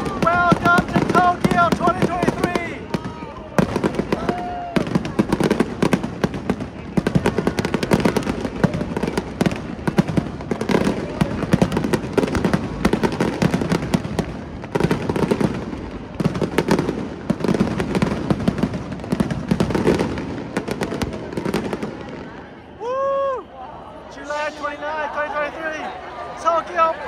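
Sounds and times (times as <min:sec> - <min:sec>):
fireworks popping and crackling: 0:00.0 - 0:22.6.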